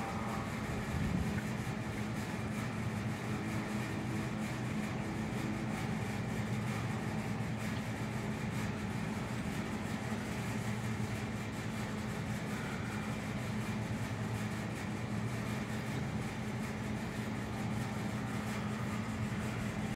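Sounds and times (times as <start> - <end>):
low mechanical hum: 0.0 - 19.9.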